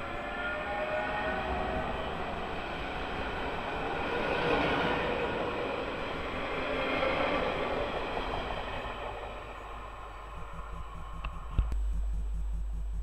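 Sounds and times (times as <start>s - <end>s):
train wheels rumbling on rails: 0.0s - 11.8s.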